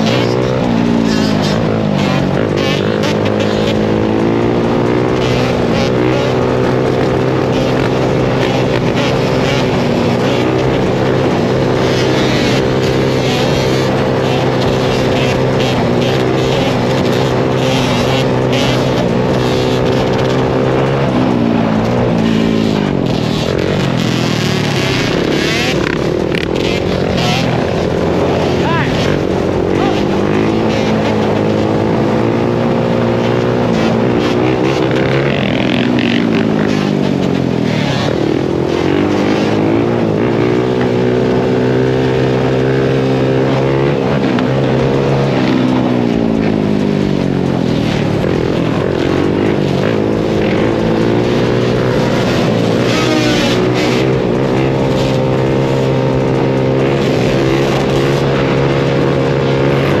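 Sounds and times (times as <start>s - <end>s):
quad engine revving: 0.0s - 60.0s.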